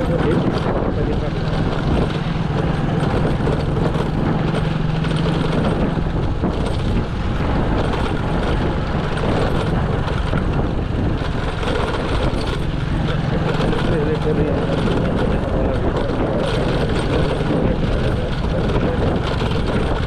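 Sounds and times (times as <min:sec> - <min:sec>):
vehicle engine hum: 0:00.0 - 0:20.0
wind and road noise: 0:00.0 - 0:20.0.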